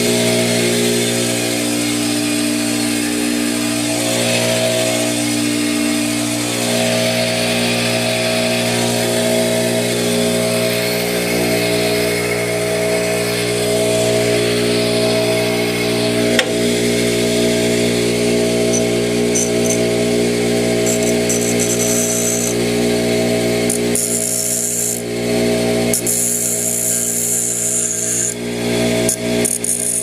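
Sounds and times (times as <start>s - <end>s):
machine motor droning: 0.0s - 29.4s.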